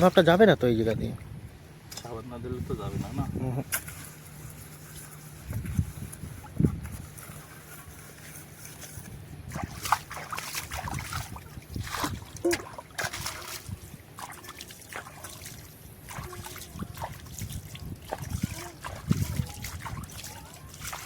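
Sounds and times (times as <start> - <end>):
water sloshing and trickling: 0.0 - 21.0.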